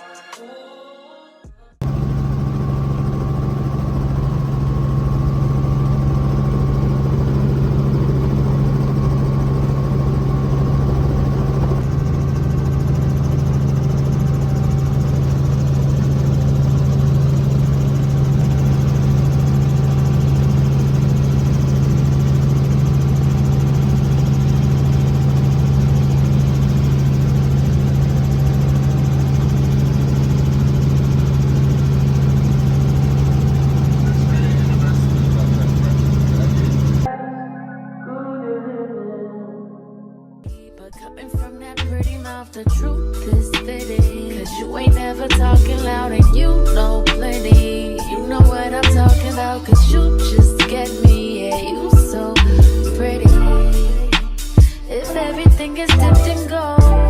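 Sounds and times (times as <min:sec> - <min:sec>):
engine drone: 0:01.8 - 0:37.1, 0:41.7 - 0:57.0.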